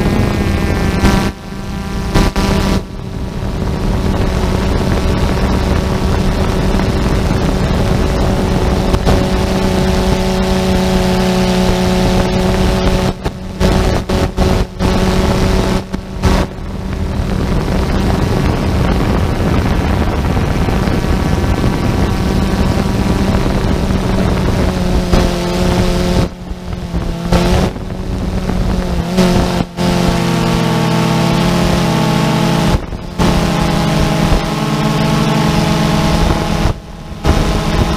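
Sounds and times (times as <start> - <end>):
drone motors whining: 0.0 - 37.9.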